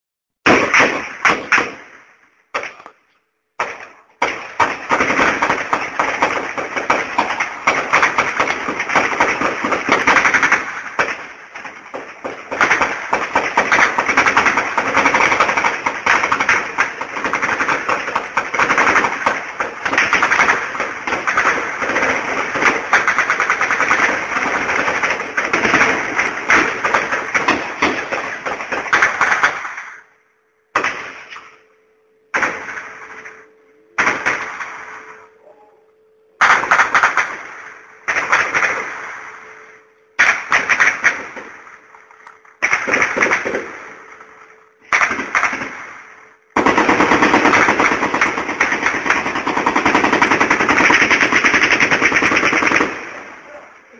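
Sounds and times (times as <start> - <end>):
heavy automatic gunfire: 0.4 - 2.8, 3.6 - 31.7, 32.3 - 35.4, 36.4 - 53.6.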